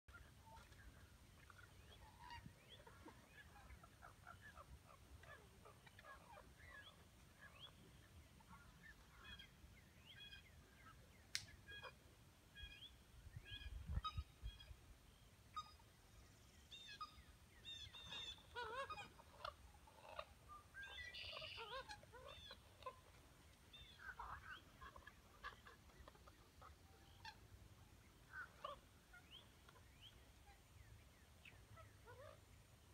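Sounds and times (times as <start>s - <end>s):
birds chirping and croaking: 0.1s - 14.9s, 15.5s - 32.9s.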